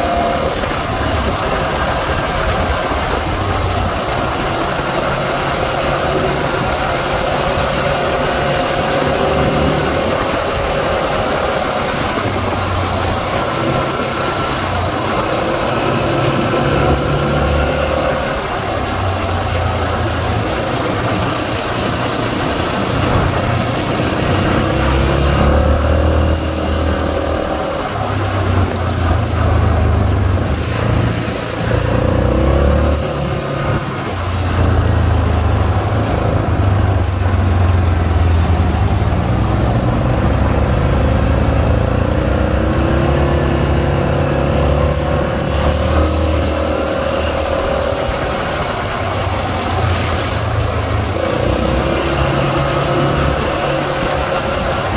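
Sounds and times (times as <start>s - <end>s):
quad bike engines revving: 0.0s - 54.9s.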